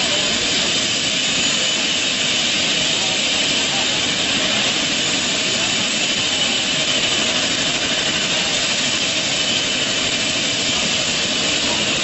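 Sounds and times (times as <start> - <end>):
helicopter turbine engine running: 0.0 - 12.0.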